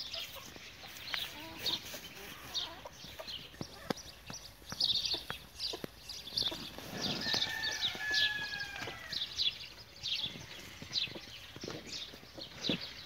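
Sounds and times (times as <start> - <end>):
chickens chirping: 0.0 - 13.0.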